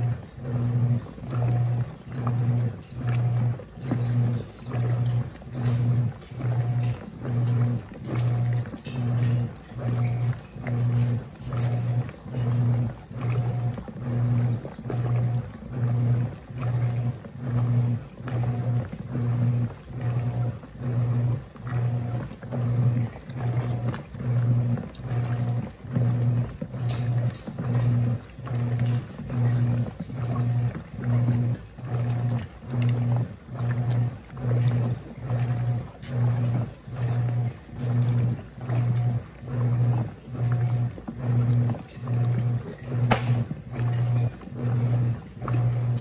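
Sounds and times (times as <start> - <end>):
agitator swishing through water: 0.0 - 46.0
washing machine motor hum pulsing: 0.0 - 46.0.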